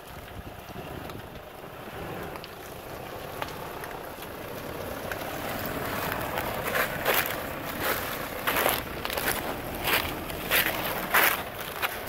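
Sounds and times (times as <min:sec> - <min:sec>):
leaves crackling under tyres: 0:00.0 - 0:12.0
truck engine running low speed: 0:00.0 - 0:12.0.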